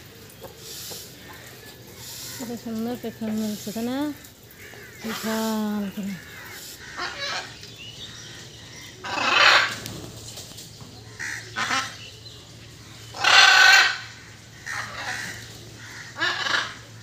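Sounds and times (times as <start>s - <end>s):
peafowl honking calls: 0.4s - 9.8s, 11.1s - 12.1s, 13.1s - 17.0s.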